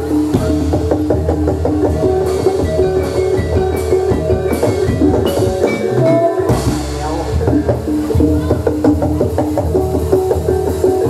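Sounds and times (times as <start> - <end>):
drums beating: 0.0 - 11.0
gamelan ensemble playing: 0.0 - 11.0.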